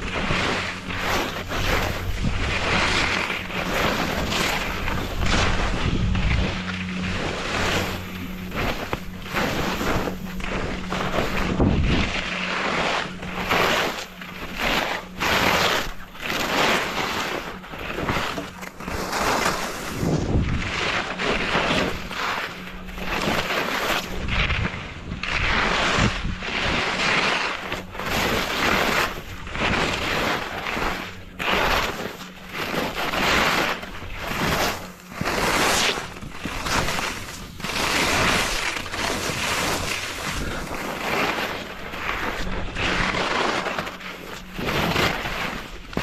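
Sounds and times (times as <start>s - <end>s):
skis scraping through snow: 0.0s - 46.0s.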